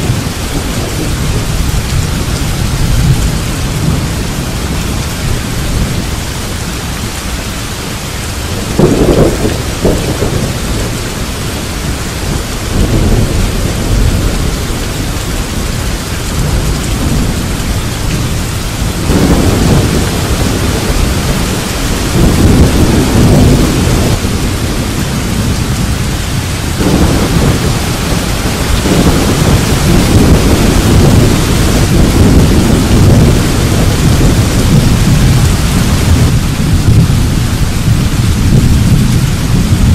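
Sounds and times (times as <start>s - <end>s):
heavy rain hiss: 0.0s - 39.9s
thunder rumbling: 0.0s - 39.9s.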